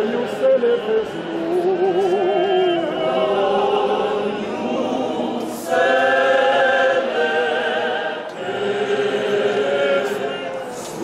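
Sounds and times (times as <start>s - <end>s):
church choir singing: 0.0s - 11.0s.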